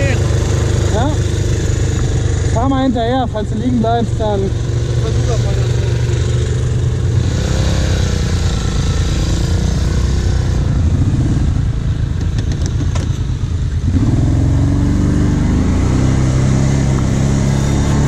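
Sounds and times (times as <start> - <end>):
quad bike engines running: 0.0 - 18.0.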